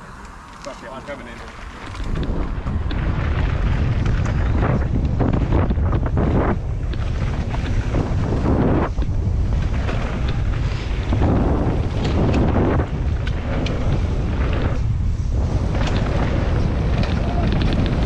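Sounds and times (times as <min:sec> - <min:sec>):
wind buffeting microphone: 0:00.0 - 0:18.0
bike clicks and rattles: 0:00.1 - 0:18.0.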